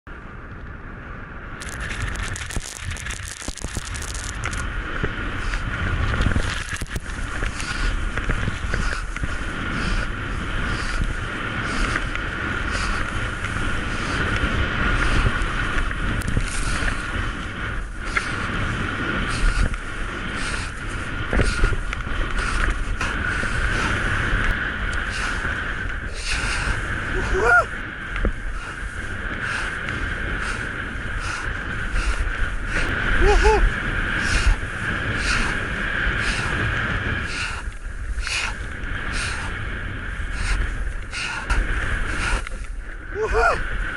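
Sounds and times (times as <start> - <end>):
wind buffeting microphone: 0.1 - 43.9
constant hiss: 1.6 - 43.9
skis scraping over snow: 1.6 - 43.9.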